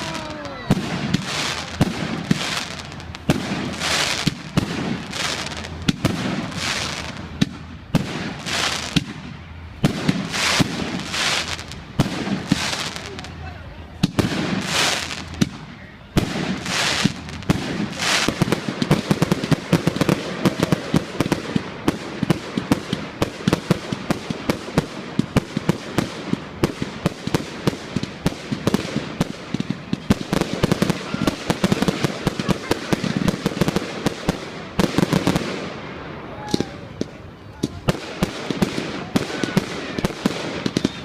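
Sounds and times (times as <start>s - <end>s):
fireworks crackling pops: 0.0s - 13.4s, 14.0s - 41.0s
fireworks banging: 0.0s - 41.0s.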